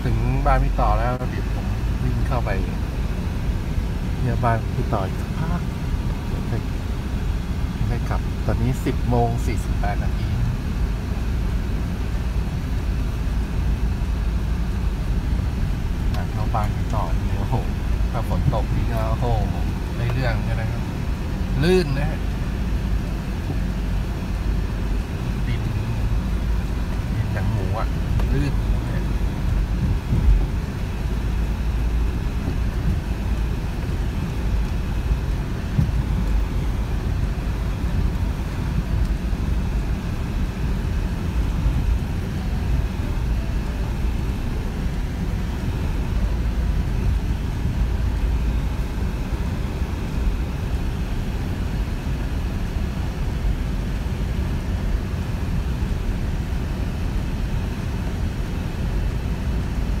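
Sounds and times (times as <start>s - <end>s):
vehicle engine and road rumble: 0.0s - 60.0s.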